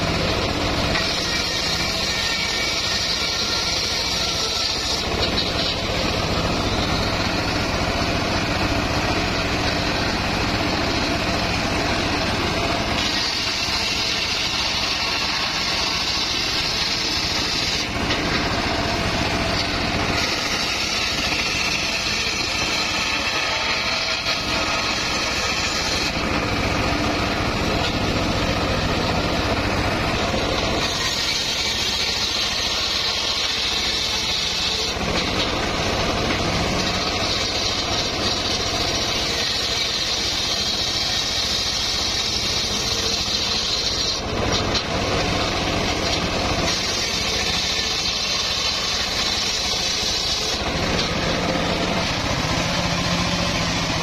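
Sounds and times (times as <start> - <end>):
saw blade hissing in wood: 0.0 - 54.0
table saw engine running: 0.0 - 54.0.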